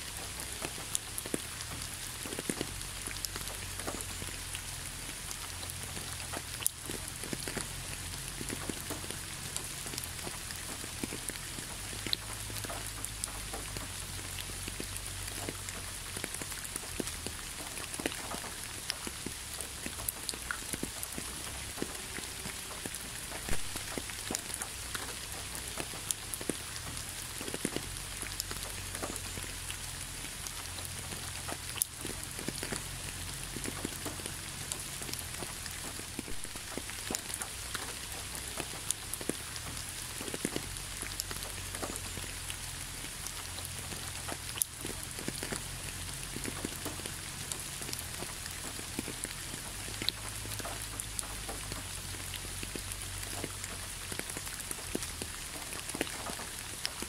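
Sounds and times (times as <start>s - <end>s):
rain falling: 0.0s - 57.0s
raindrops ticking: 0.0s - 57.0s.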